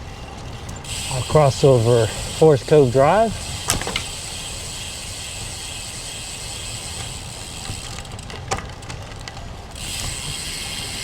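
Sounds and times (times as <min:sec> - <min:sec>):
bicycle tyre noise: 0:00.0 - 0:11.0.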